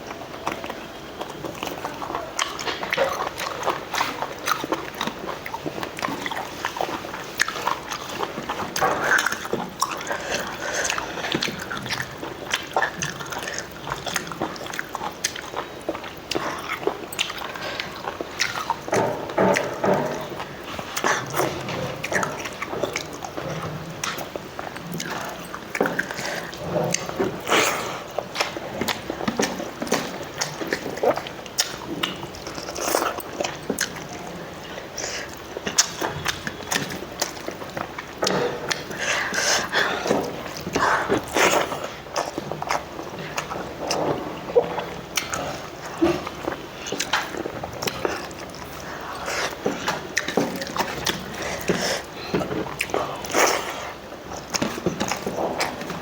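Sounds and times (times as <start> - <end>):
person chewing with wet smacks: 0.0 - 56.0.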